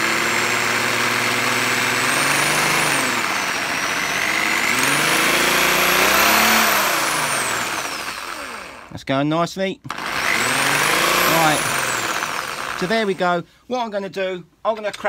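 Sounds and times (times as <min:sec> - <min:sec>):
drill bit cutting into steel: 0:00.0 - 0:09.0, 0:09.9 - 0:13.4
electric drill whining: 0:00.0 - 0:09.0, 0:09.9 - 0:13.4.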